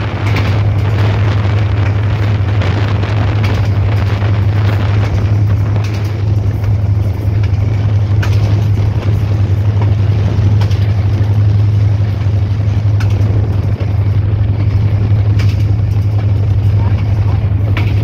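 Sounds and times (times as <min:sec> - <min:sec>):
diesel locomotive engine hum: 0:00.0 - 0:18.0.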